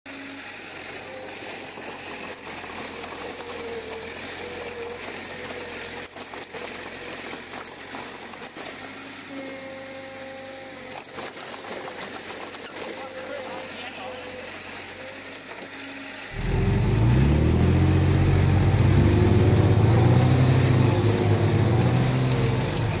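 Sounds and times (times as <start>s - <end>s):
bulldozer diesel engine running: 0.1s - 23.0s.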